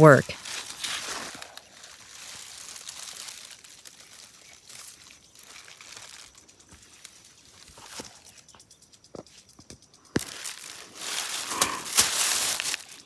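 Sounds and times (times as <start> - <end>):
plastic bag crinkling: 0.0 - 8.6, 10.2 - 13.0.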